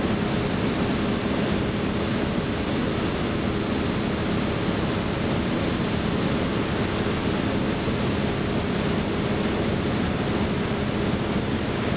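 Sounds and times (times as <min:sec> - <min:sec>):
low constant hum: 0:00.0 - 0:11.9.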